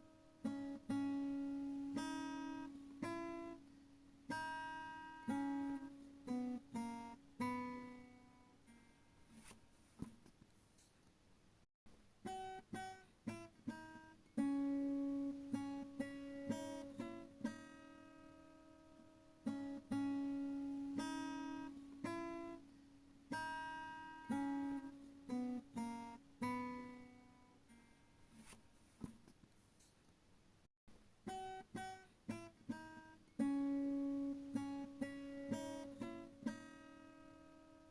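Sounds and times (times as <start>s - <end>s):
acoustic guitar playing: 0.0s - 9.7s, 12.2s - 28.6s, 31.2s - 37.9s.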